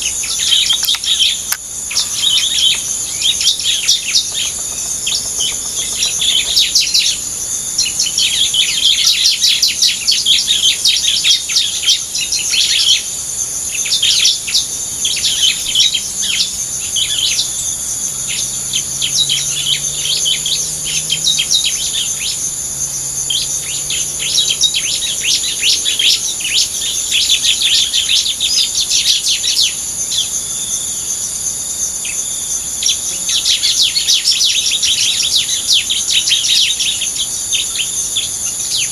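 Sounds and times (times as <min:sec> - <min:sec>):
high-pitched insect drone: 0:00.0 - 0:38.9
small birds chirping: 0:00.0 - 0:38.9.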